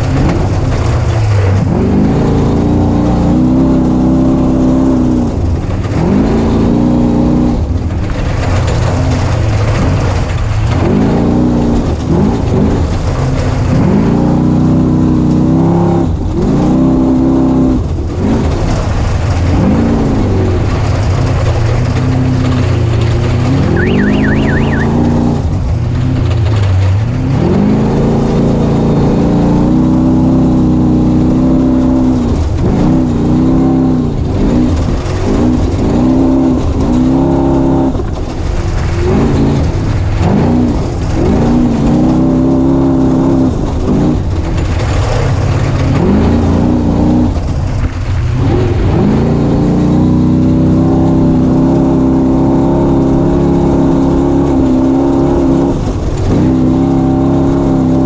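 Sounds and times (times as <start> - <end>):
race vehicle engine revving: 0.0 - 58.0.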